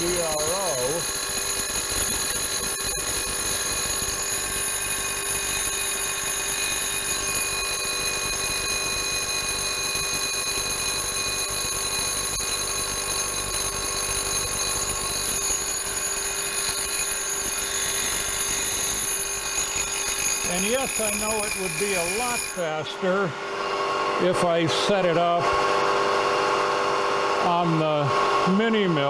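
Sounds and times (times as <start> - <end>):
milling machine saw whine: 0.0 - 29.0.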